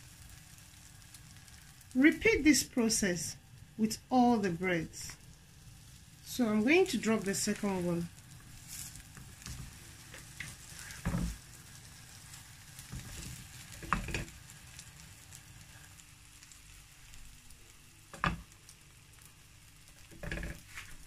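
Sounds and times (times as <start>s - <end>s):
bread sizzling in pan: 0.0s - 21.0s.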